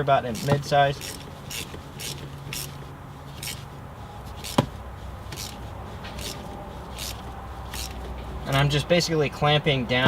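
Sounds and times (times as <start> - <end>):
ratchet wrench strokes: 0.2 - 8.8.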